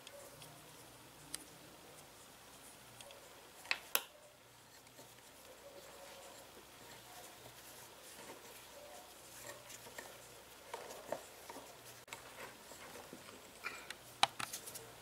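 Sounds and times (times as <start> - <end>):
fingers kneading dough: 0.0 - 15.0.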